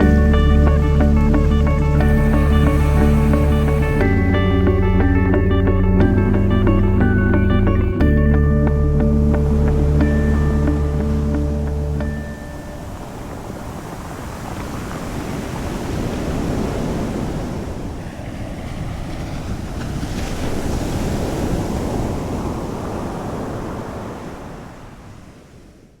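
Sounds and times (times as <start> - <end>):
waves breaking on shore: 0.0 - 7.2, 8.1 - 26.0.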